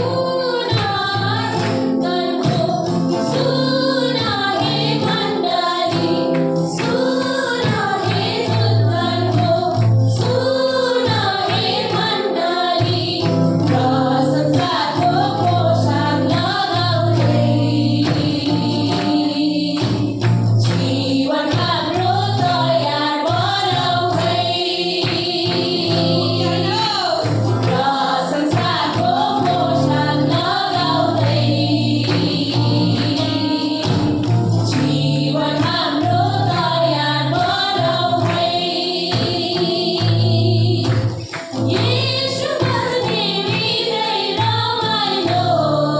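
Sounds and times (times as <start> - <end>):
group singing worship song: 0.0 - 45.9.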